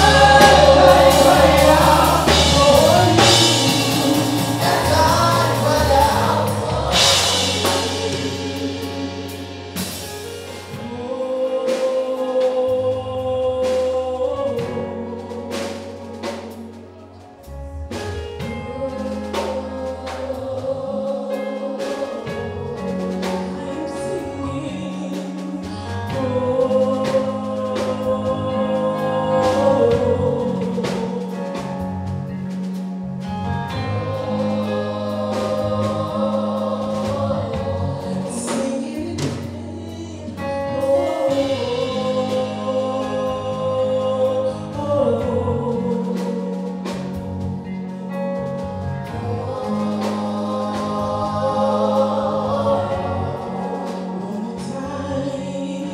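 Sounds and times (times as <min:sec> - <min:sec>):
bass line: 0:00.0 - 0:55.9
gospel choir singing: 0:00.0 - 0:55.9
steady drum beat: 0:00.0 - 0:55.9.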